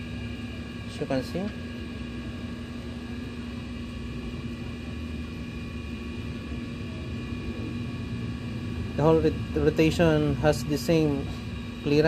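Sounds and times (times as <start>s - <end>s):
mechanical hum with low rumble: 0.0s - 12.0s.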